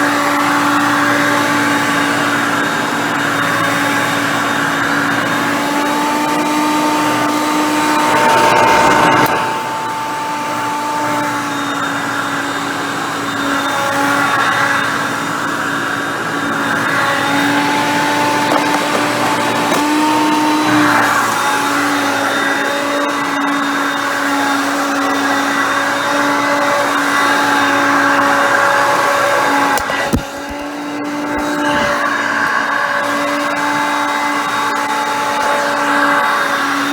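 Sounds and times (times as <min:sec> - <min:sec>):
vacuum cleaner motor whining: 0:00.0 - 0:36.9.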